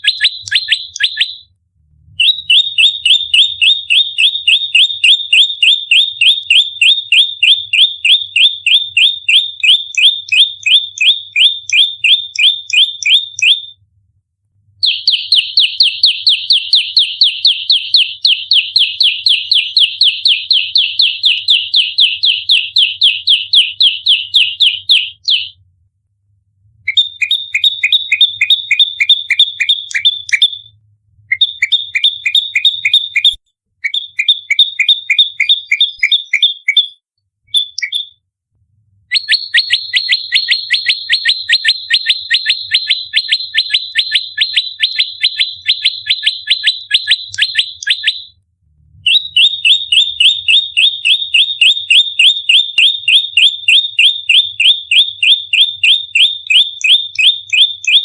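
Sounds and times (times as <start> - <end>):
songbird rapid repeated chirps: 0.0 - 1.5, 2.2 - 13.8, 14.8 - 25.6, 26.9 - 30.7, 31.3 - 38.2, 39.1 - 48.4, 49.1 - 58.0.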